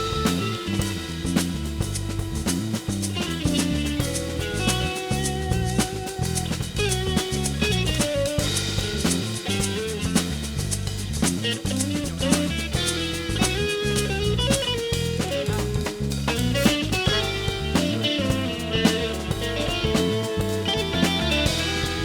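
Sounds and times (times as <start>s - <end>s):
bass line: 0.0s - 22.0s
drum kit: 0.0s - 22.0s.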